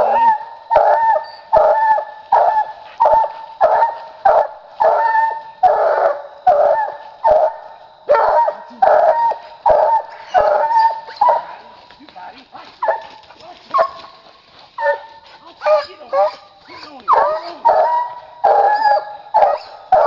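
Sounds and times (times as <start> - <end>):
hound pup barking: 0.0 - 11.9, 12.6 - 20.0.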